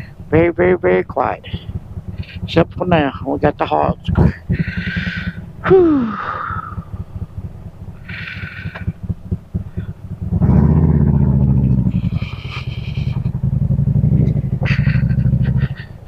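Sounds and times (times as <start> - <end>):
motorcycle engine idling: 0.0 - 16.0
motorcycle engine revving: 0.0 - 16.0.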